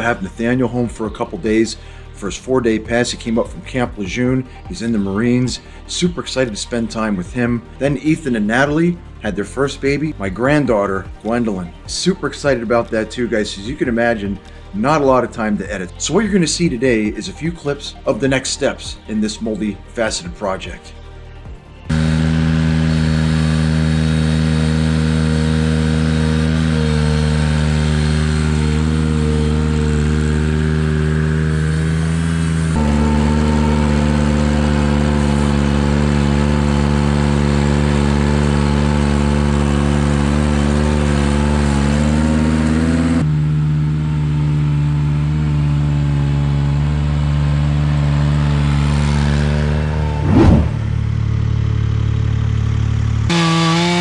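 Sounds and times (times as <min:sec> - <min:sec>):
tractor engine running: 0:00.0 - 0:17.6, 0:21.4 - 0:53.9.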